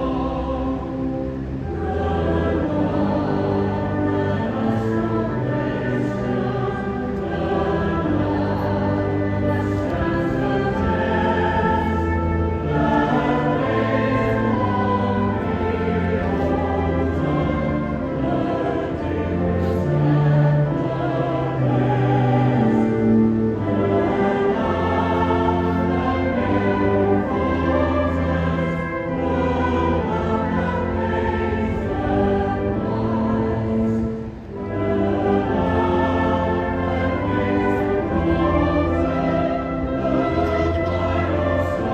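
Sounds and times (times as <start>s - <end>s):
choir singing long held notes: 0.0s - 41.9s.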